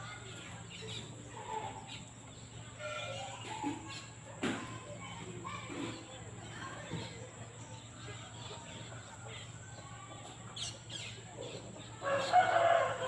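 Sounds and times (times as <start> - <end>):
bird chirps and calls: 0.0 - 4.2, 5.5 - 13.0.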